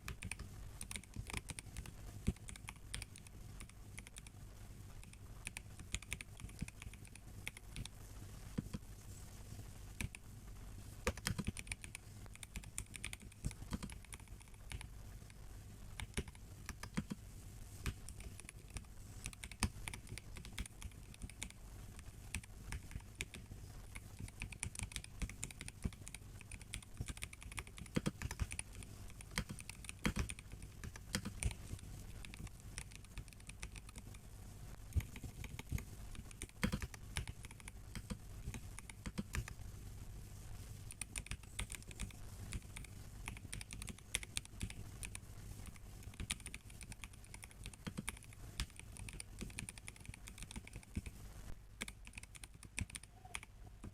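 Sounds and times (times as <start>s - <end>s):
mechanical keyboard typing: 0.0s - 4.3s, 5.0s - 7.9s, 11.0s - 14.9s, 16.0s - 17.2s, 17.8s - 21.6s, 22.2s - 34.2s, 34.9s - 39.5s, 40.9s - 51.1s, 51.8s - 53.9s.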